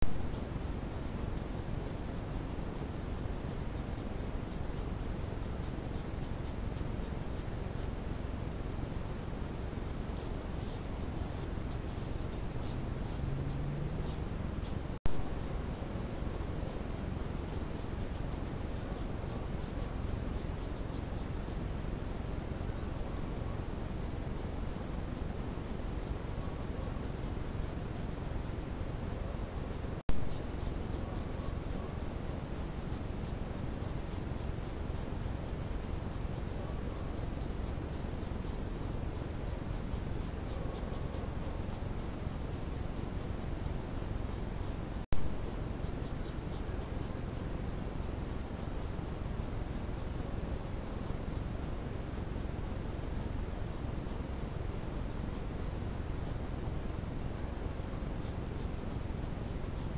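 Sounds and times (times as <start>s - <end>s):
faint high-pitched chirps: 0.0s - 59.9s
faint high-pitched ticks: 0.0s - 59.9s
microphone hiss: 0.0s - 59.9s.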